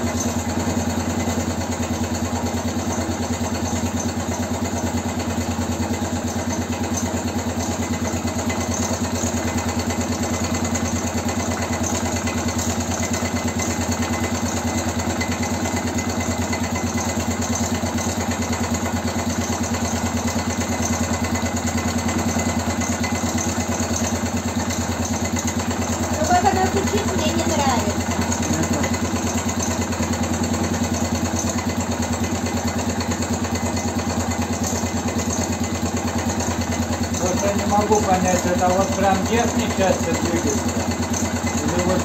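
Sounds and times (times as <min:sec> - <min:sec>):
engine knocking: 0:00.0 - 0:42.0
motorcycle engine idling: 0:00.0 - 0:42.0.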